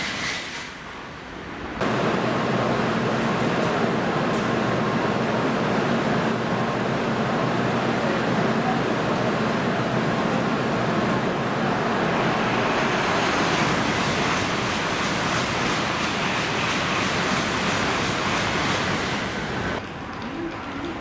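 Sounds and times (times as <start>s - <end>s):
high-speed train rushing past: 0.0s - 21.0s.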